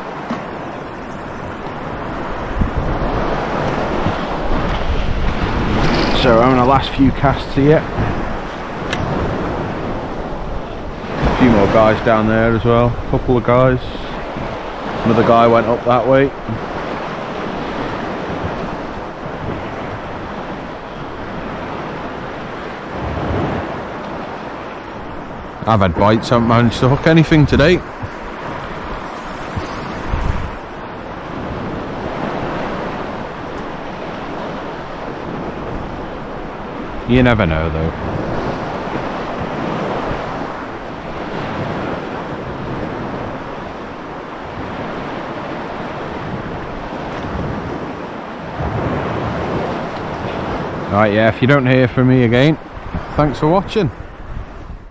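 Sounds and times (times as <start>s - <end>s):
small waves washing: 0.0s - 54.8s
wind buffeting microphone: 0.0s - 54.9s.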